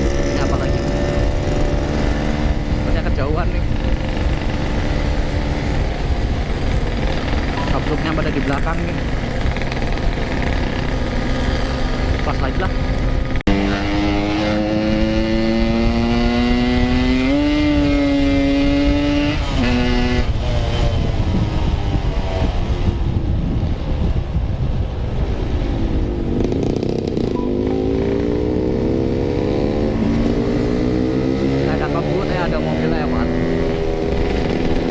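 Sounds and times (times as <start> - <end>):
motorcycle engine accelerating: 0.0 - 34.9
wind rush: 0.0 - 34.9.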